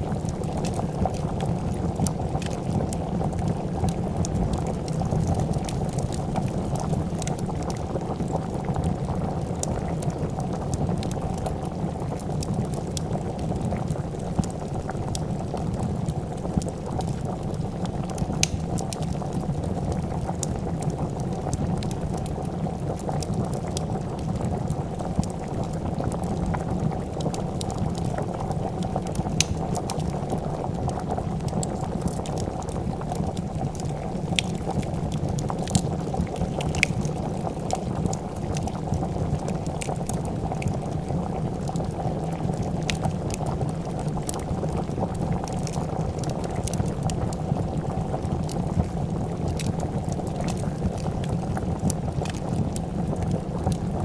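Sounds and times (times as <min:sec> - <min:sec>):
soup boiling and bubbling: 0:00.0 - 0:54.0
wood fire crackling: 0:00.0 - 0:54.0.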